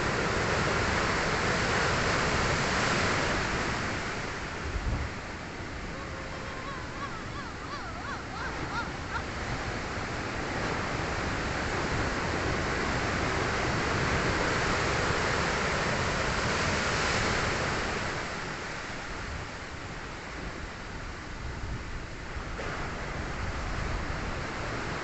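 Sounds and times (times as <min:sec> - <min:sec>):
wave breaking on shore: 0:00.0 - 0:25.0.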